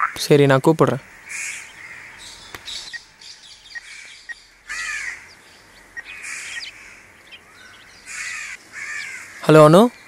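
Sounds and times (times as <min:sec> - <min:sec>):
crows cawing: 0:01.0 - 0:09.7.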